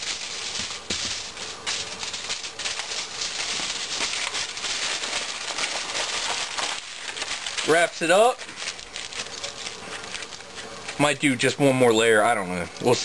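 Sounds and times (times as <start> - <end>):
aluminium foil crinkling: 0.0 - 13.0.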